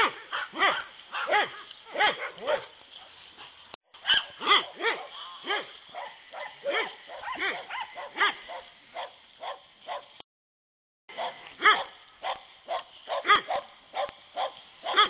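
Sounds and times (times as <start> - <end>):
dogs barking and yipping: 0.0 - 10.2, 11.1 - 15.0.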